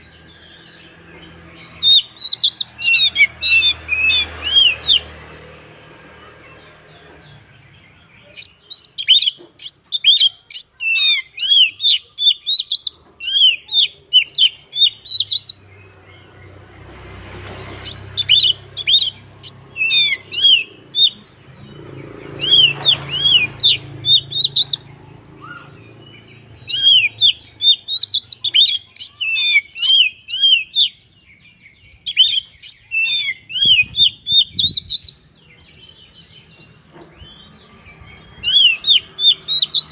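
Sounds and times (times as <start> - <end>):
bird whistling song: 0.0 - 5.2, 7.3 - 16.3, 17.7 - 39.9.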